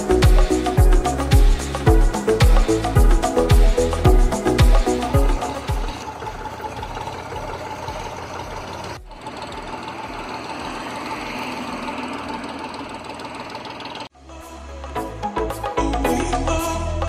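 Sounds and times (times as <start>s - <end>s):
tractor diesel engine running: 0.0s - 14.1s.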